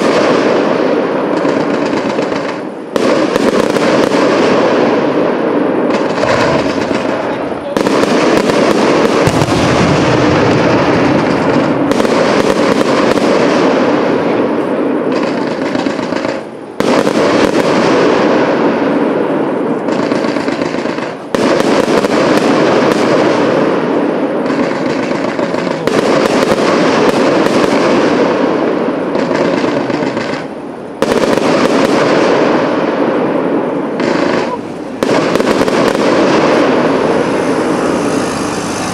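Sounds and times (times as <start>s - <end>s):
fireworks bursts and crackling: 0.0s - 38.9s.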